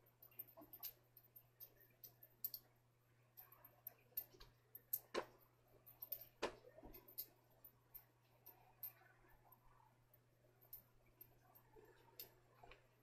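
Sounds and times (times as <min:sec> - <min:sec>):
faint irregular clicks: 0:00.0 - 0:13.0
steady low hum: 0:00.0 - 0:13.0.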